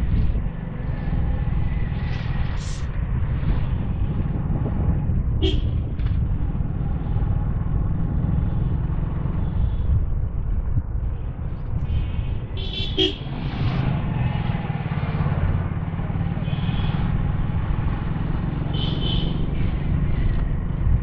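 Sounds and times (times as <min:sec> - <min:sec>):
wind buffeting microphone: 0:00.0 - 0:18.6, 0:19.4 - 0:21.0
motorcycle engine cruising: 0:00.0 - 0:21.0.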